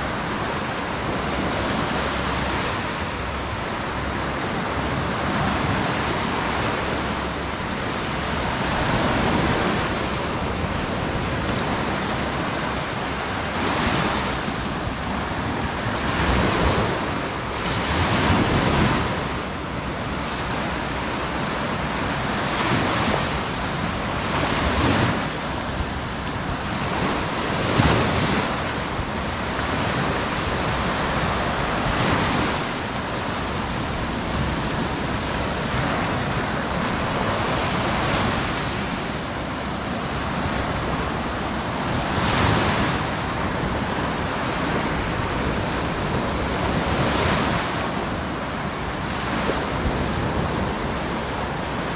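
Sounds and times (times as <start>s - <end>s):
waves breaking on beach: 0.0s - 51.9s.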